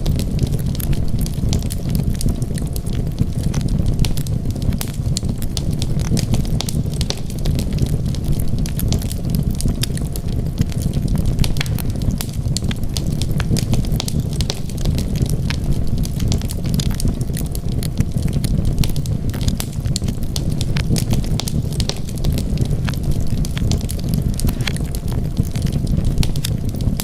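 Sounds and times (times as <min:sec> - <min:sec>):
low rumble of flames: 0:00.0 - 0:27.0
wood fire crackling: 0:00.0 - 0:27.0.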